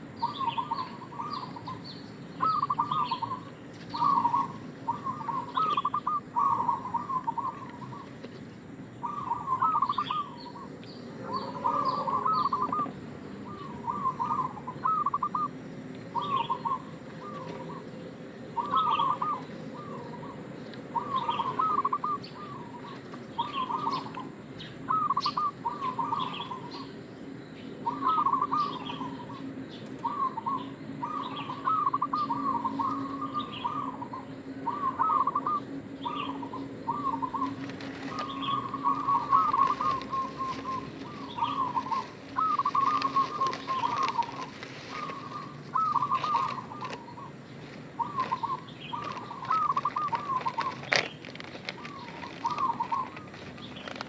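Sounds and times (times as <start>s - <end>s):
dove stuttering coos: 2.4s - 8.4s, 9.0s - 27.0s, 27.8s - 54.0s.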